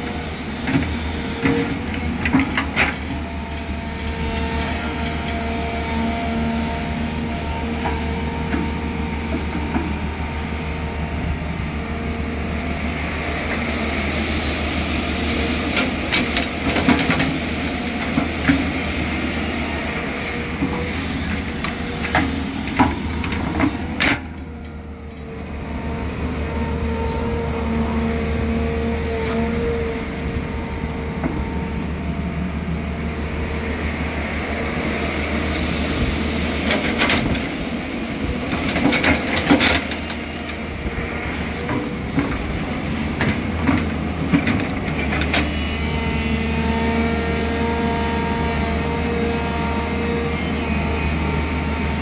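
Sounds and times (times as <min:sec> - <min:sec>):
excavator diesel engine drone: 0:00.0 - 0:52.0
hydraulic whine: 0:00.0 - 0:52.0.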